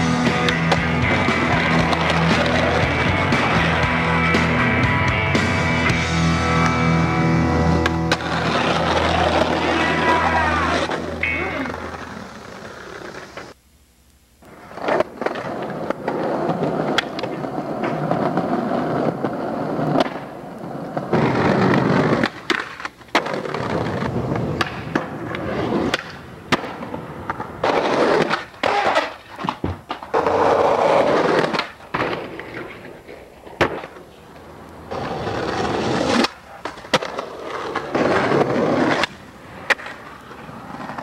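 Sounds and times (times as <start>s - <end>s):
skateboards clacking: 0.0s - 13.6s, 14.5s - 41.0s
skateboards rolling on concrete: 0.0s - 13.6s, 14.4s - 41.0s.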